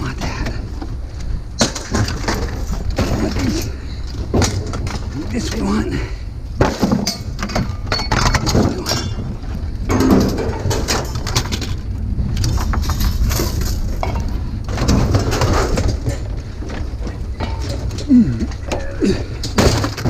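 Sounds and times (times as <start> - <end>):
junk clanking and rattling: 0.0 - 20.0
steady low rumble: 0.0 - 20.0.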